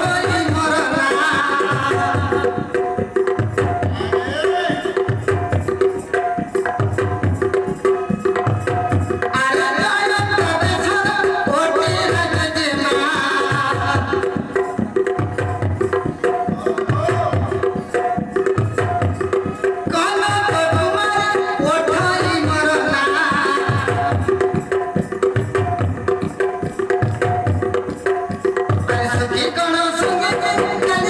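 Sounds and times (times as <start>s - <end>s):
hand drums beating: 0.0s - 31.0s.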